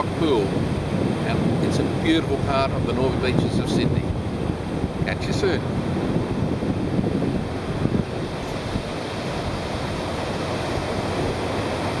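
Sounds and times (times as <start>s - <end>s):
ocean surf washing: 0.0s - 12.0s
wind on microphone: 0.0s - 12.0s.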